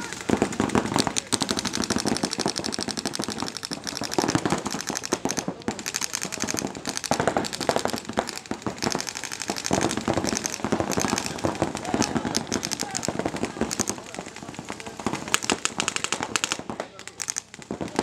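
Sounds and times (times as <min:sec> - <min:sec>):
paintball guns firing rapidly: 0:00.0 - 0:18.0.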